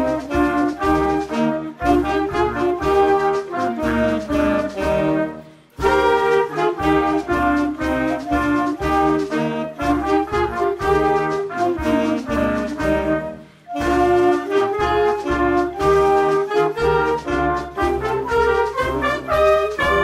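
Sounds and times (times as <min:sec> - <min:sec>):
wind band playing: 0:00.0 - 0:20.0.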